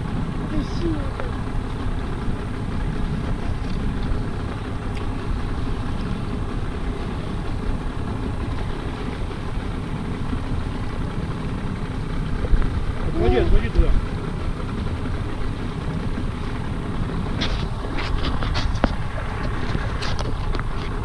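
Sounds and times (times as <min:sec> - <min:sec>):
outboard motor rumbling: 0:00.0 - 0:21.0.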